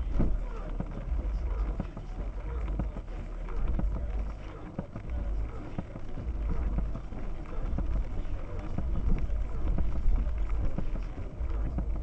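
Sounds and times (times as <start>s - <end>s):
car engine and tyre rumble: 0.0s - 12.0s
car rattling over bumps: 0.0s - 12.0s.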